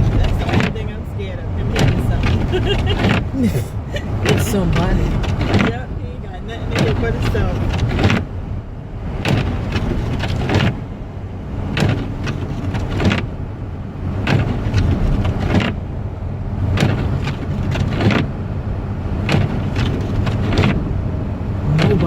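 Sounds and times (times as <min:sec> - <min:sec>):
low road rumble in car: 0:00.0 - 0:22.0.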